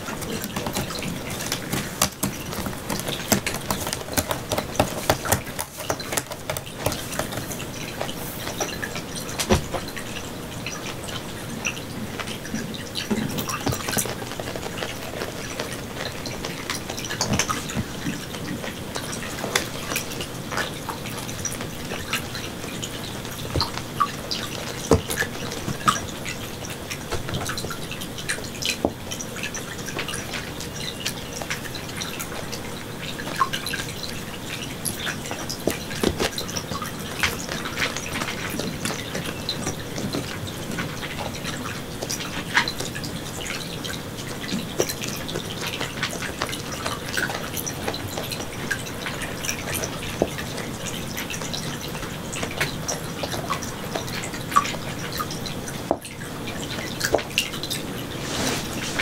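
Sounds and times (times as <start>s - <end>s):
water dripping and trickling: 0.0s - 58.2s.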